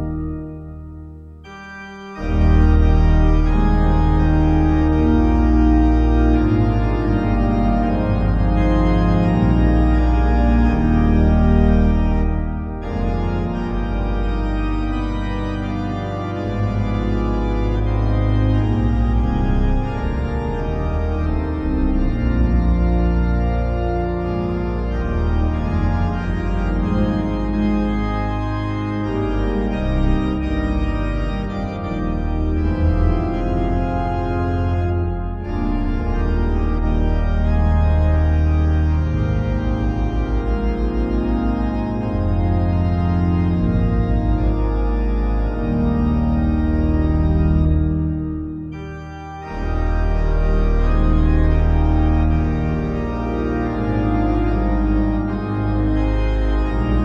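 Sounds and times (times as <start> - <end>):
organ playing slow chords: 0.0 - 57.0.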